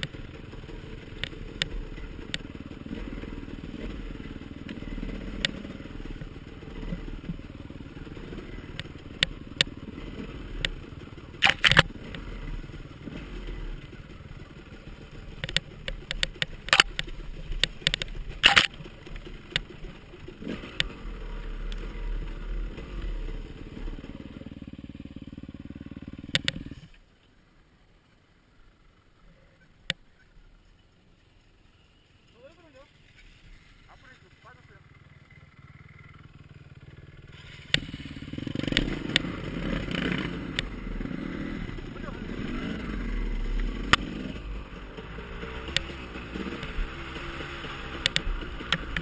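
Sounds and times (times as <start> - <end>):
dirt bike engine running: 0.0 - 27.0, 29.8 - 49.0.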